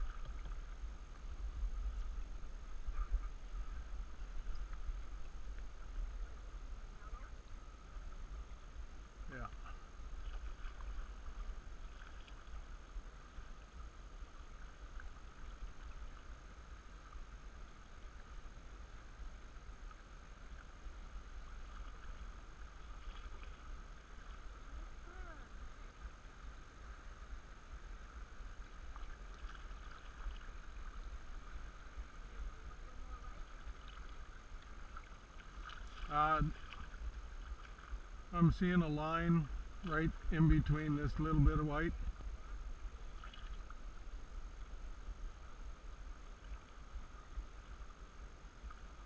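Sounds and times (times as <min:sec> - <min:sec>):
paddle strokes: 0:00.0 - 0:27.2, 0:27.8 - 0:49.0
low steady rumble: 0:00.0 - 0:49.0
water washing along hull: 0:00.0 - 0:49.0.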